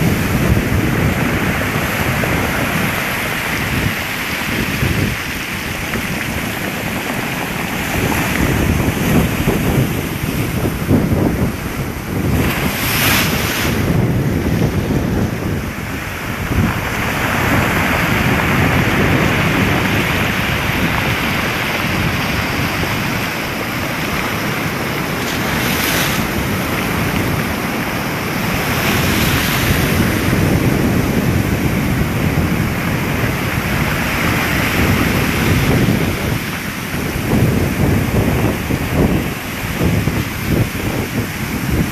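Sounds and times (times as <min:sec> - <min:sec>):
surf breaking ashore: 0:00.0 - 0:41.9
wind buffeting microphone: 0:00.0 - 0:41.9.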